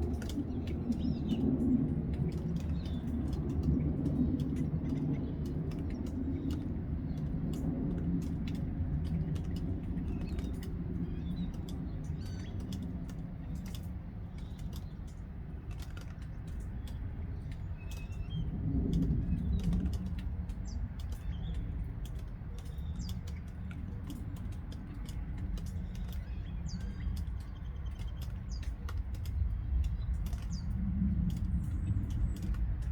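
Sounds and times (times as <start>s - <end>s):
low rumble: 0.0s - 32.9s
sharp clicks: 0.0s - 32.9s.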